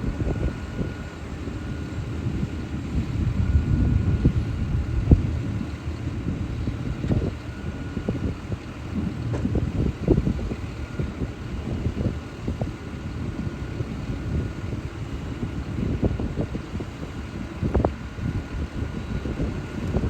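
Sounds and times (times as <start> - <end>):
harvester engine rumble: 0.0 - 20.0.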